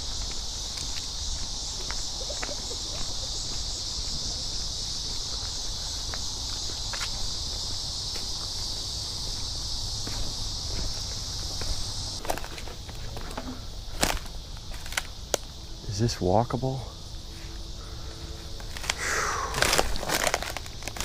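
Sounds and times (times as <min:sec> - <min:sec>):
footsteps on rough ground: 0:00.0 - 0:15.6, 0:17.0 - 0:21.0
insects buzzing: 0:00.0 - 0:21.0.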